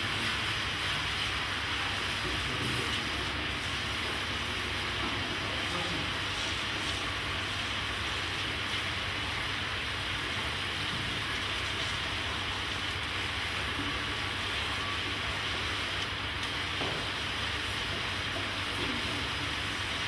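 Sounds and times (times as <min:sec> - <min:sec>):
steam hissing from pot: 0:00.0 - 0:20.0.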